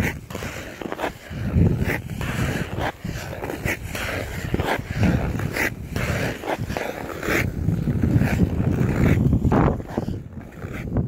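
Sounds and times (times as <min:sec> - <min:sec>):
ice skates scraping on ice: 0:00.0 - 0:11.0
low rumble of ice: 0:00.2 - 0:11.0.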